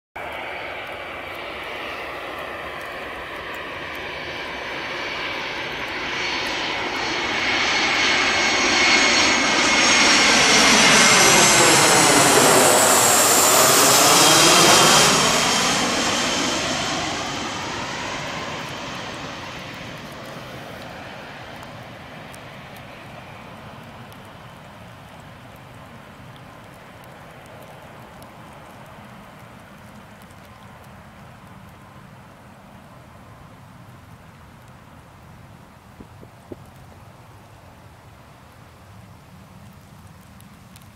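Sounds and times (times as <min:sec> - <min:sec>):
jet airliner flying low overhead: 0:00.2 - 0:37.8.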